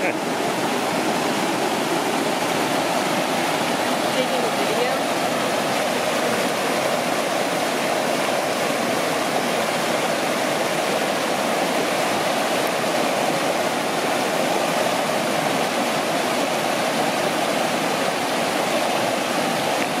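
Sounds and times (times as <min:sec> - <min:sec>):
creek rushing over boulders: 0:00.0 - 0:20.0.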